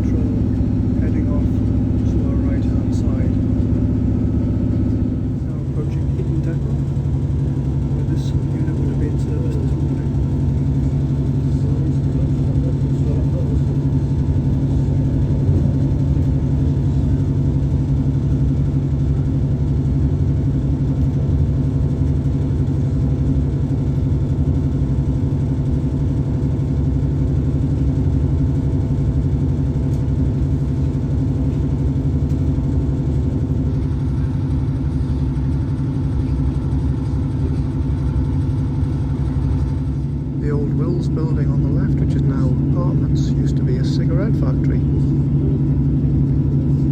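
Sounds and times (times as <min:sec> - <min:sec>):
train engine drone: 0:00.0 - 0:46.9
wheel-on-rail rumble: 0:00.0 - 0:46.9.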